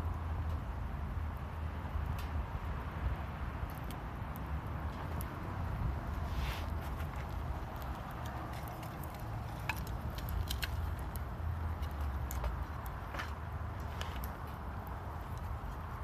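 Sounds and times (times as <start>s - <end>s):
campfire crackling and popping: 0.0s - 16.0s
fire low rumble: 0.0s - 16.0s.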